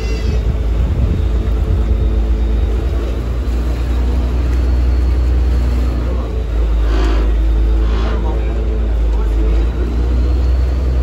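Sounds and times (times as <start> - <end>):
boat engine low rumble: 0.0 - 11.0.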